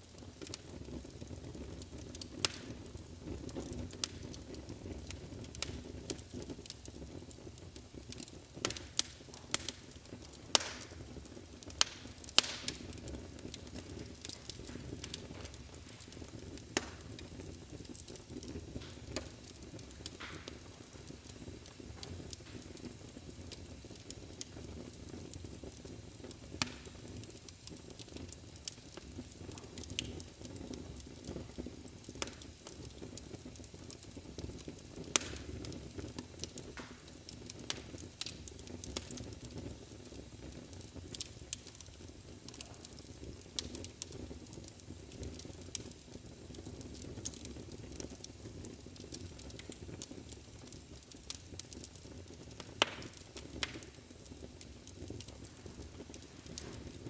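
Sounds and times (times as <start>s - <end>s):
flames rumbling and hissing: 0.0s - 57.0s
wood crackling and popping: 0.0s - 57.0s.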